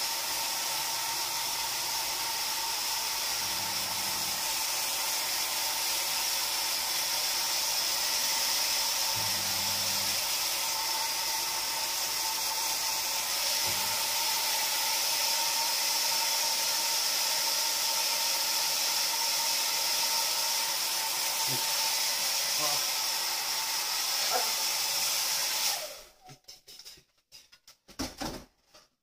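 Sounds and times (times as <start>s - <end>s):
hair dryer running: 0.0s - 26.3s.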